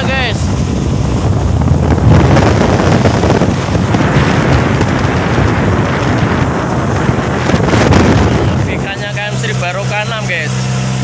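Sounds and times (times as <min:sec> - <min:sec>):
boat engine running: 0:00.0 - 0:11.0
rough sea: 0:00.0 - 0:11.0
wind buffeting microphone: 0:00.0 - 0:11.0.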